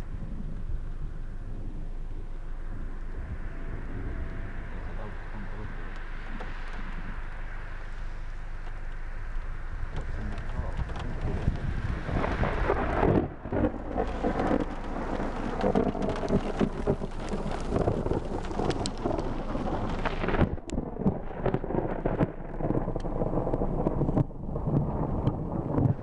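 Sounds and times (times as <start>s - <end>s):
heavy rain pattering: 0.0s - 26.0s
thunder rumbling: 0.0s - 26.0s.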